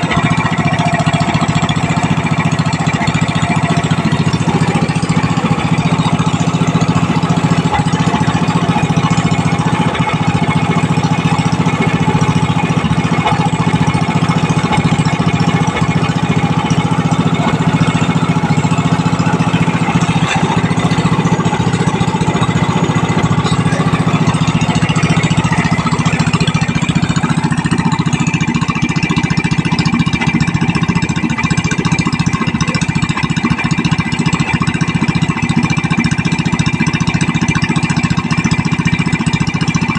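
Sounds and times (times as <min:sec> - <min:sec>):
gasoline engine running: 0:00.0 - 0:39.9.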